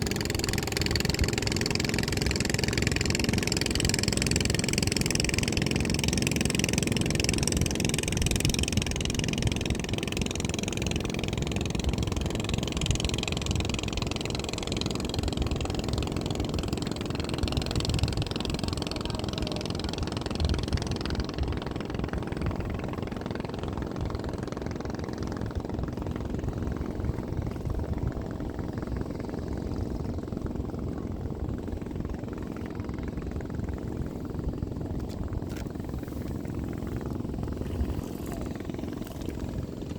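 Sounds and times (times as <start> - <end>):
boat engine rumbling: 0.0 - 39.9.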